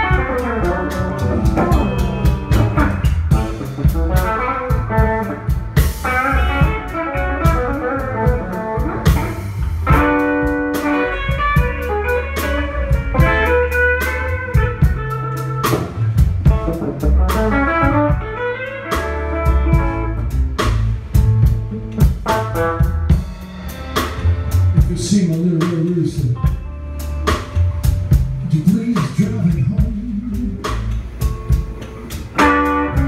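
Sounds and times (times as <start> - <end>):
drum kit and cymbal hits: 0.0 - 33.0
electric bass: 0.0 - 33.0
electric guitar melody: 0.0 - 33.0.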